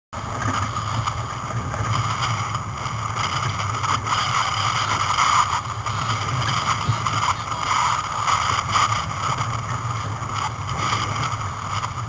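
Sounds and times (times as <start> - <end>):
wind and water rushing past hull: 0.2 - 12.0
wind buffeting microphone: 0.2 - 12.0.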